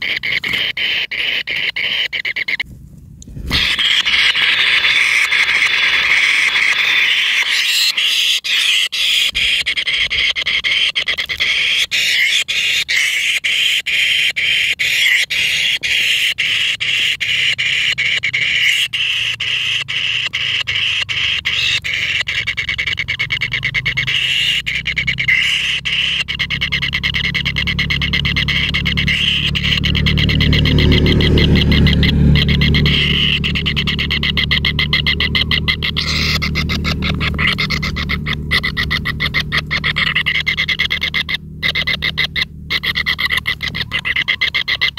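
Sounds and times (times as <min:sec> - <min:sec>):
nestlings harsh rasping begging calls: 0:00.0 - 0:02.6, 0:03.5 - 0:44.9.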